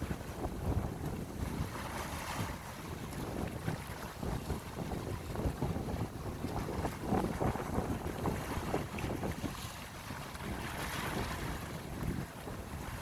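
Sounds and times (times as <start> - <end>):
sea waves on shore: 0.0 - 13.0
wind gusting across microphone: 0.0 - 13.0.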